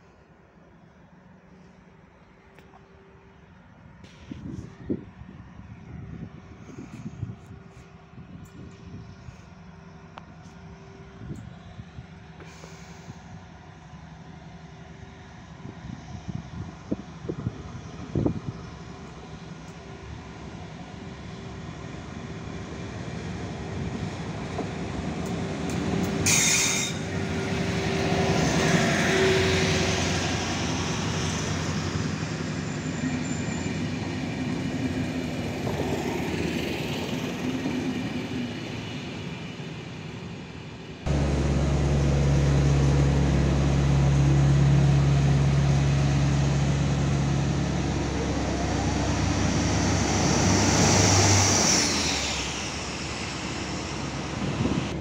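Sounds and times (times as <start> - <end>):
diesel train passing: 0.0 - 55.0
railbus engine drone: 0.0 - 55.0.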